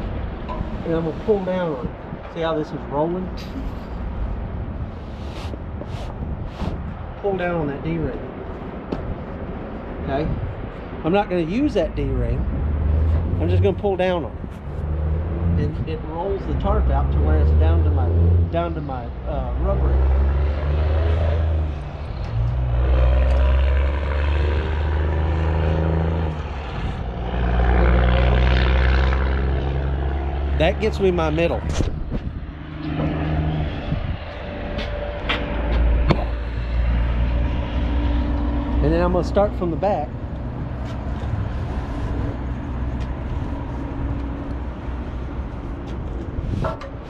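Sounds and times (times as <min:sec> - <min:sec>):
large engine droning: 0:00.0 - 0:08.4, 0:12.0 - 0:47.0.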